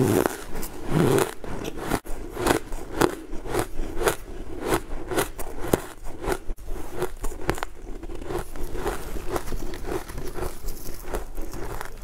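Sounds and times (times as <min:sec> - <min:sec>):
chewing cake: 0:00.0 - 0:12.0
wet mouth clicks: 0:00.0 - 0:12.0.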